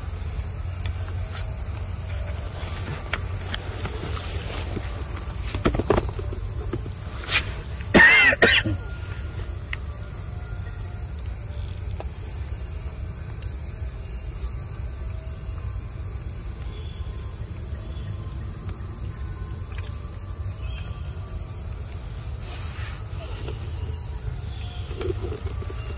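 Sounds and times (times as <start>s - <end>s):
insects buzzing: 0.0s - 25.9s.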